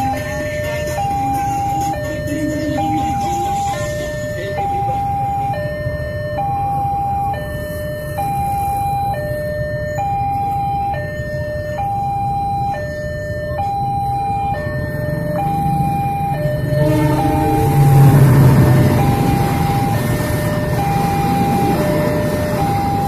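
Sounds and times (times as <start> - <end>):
motorcycle engines idling: 0.0 - 7.4, 9.9 - 23.0
two-tone crossing alarm: 0.0 - 23.0.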